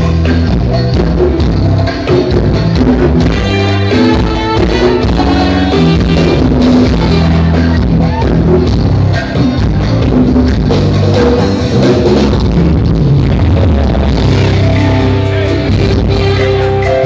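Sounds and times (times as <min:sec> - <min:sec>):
bass guitar: 0:00.0 - 0:17.0
drum kit: 0:00.0 - 0:17.0
electric guitar: 0:00.0 - 0:17.0.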